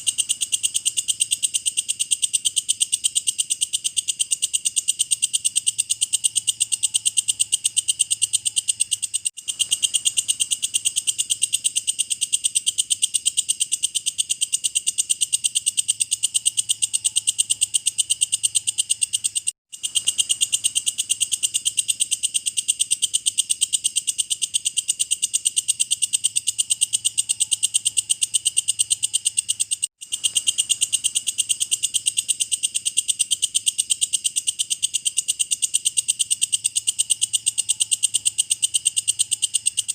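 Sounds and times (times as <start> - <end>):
bush cricket buzzy chirps: 0.0 - 39.9.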